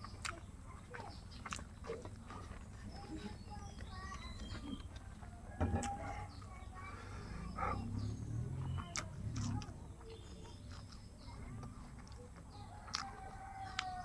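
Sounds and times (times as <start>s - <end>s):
chickens clucking: 0.0s - 14.0s
small birds chirping: 0.0s - 14.0s.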